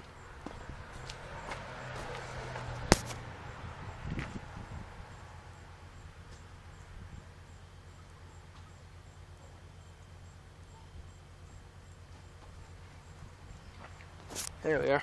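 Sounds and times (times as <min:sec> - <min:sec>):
cricket chirping: 0:00.0 - 0:14.6.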